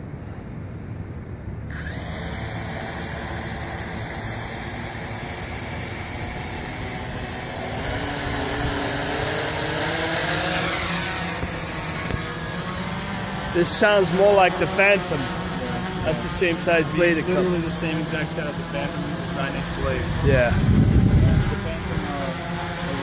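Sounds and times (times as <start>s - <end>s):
quadcopter propellers whirring: 1.5s - 23.0s.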